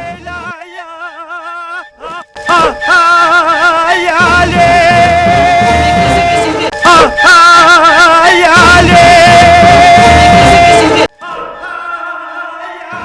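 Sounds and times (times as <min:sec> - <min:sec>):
middle eastern style music: 0:00.0 - 0:13.0
person singing with heavy vibrato: 0:00.0 - 0:13.0.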